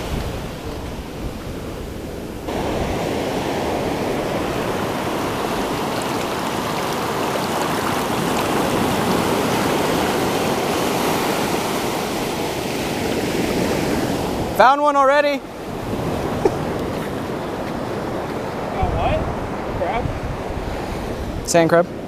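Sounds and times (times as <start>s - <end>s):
ocean surf washing over beach: 0.0s - 22.0s.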